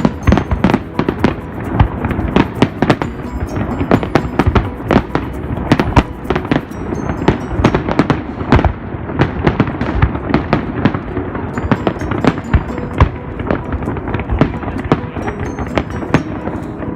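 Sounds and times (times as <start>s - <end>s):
fireworks exploding: 0.0s - 16.9s.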